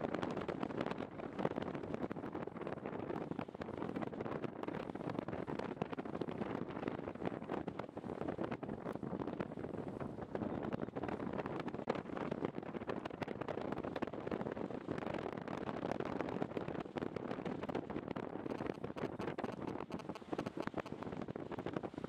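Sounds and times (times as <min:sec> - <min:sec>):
wind rush over microphone: 0:00.0 - 0:22.0
small crackles: 0:00.1 - 0:22.0.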